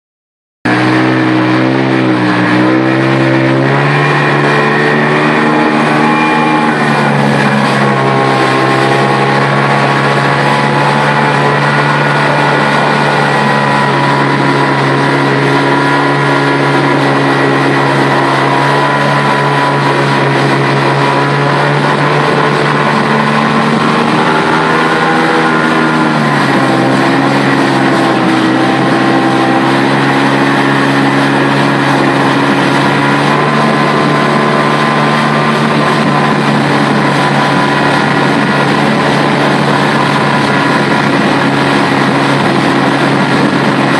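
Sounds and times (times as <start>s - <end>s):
watercraft engine running: 0.6s - 43.9s.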